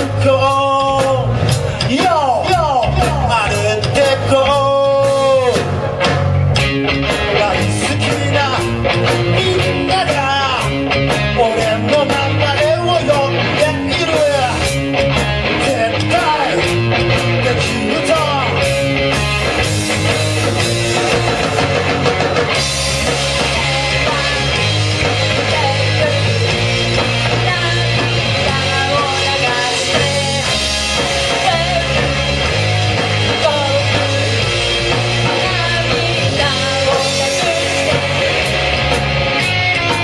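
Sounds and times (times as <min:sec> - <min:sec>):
bass guitar: 0:00.0 - 0:40.0
drum kit: 0:00.0 - 0:40.0
electric guitar: 0:00.0 - 0:40.0.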